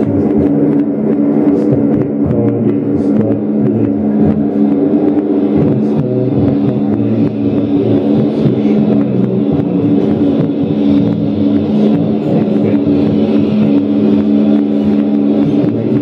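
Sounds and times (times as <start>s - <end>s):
harsh noise music drone: 0.0s - 16.0s.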